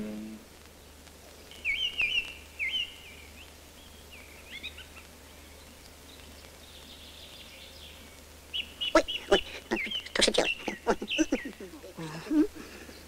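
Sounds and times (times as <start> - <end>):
faint low hum: 0.0 - 13.0
small bird chirping: 0.6 - 12.2.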